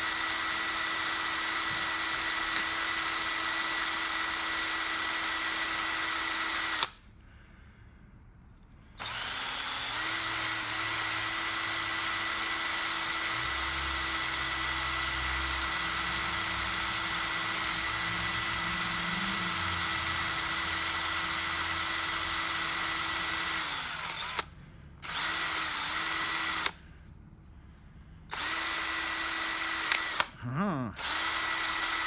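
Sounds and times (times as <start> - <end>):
electric rotary tool whining: 0.0 - 7.0, 9.0 - 26.8, 28.3 - 30.3, 31.0 - 32.0.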